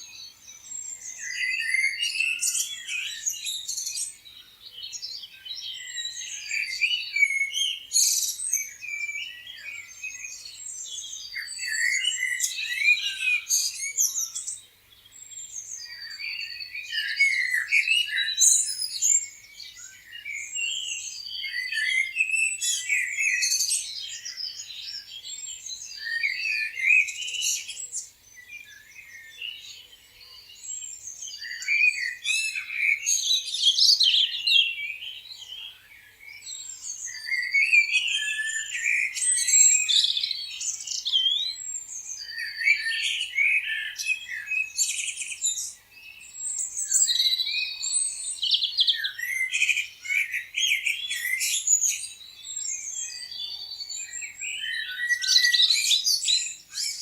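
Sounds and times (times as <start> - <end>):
songbirds chirping and warbling: 0.0 - 57.0.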